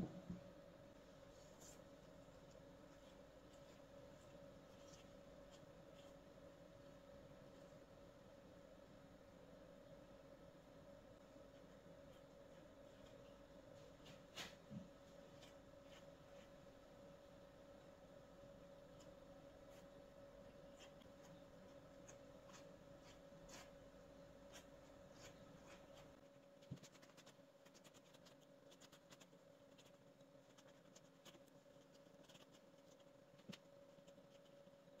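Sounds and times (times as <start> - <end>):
pastry brush dabbing dough: 0.0 - 35.0
steady low hum: 0.0 - 35.0.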